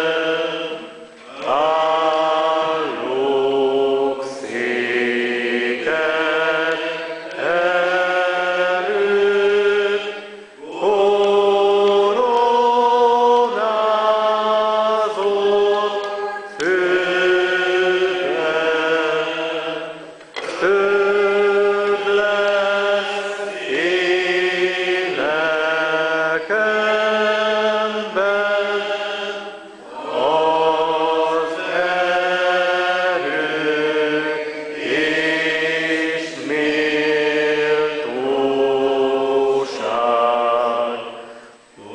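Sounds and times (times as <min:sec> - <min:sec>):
congregation singing a hymn: 0:00.0 - 0:41.9.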